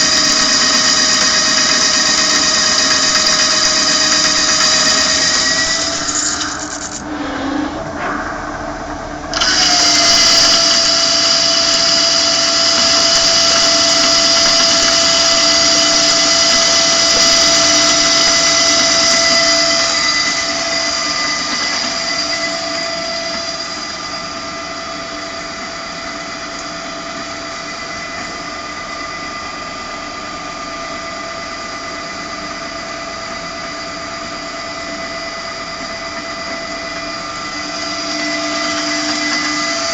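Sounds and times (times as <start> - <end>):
lathe high-pitched whine: 0.0 - 39.9.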